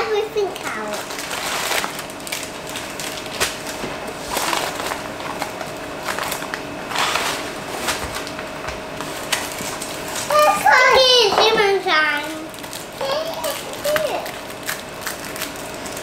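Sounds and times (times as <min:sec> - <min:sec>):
cardboard and plastic packets rustling: 0:00.6 - 0:16.0.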